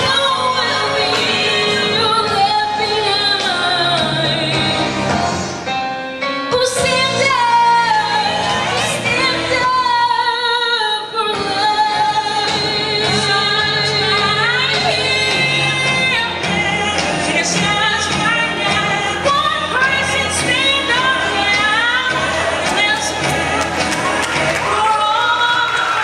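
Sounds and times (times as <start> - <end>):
girl singing into microphone: 0.0 - 5.0, 6.5 - 23.6.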